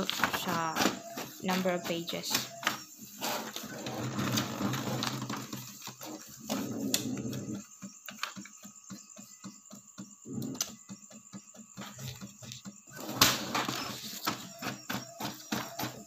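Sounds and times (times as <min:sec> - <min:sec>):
printer motor running: 0:00.0 - 0:16.0
printer ticking: 0:00.0 - 0:16.0.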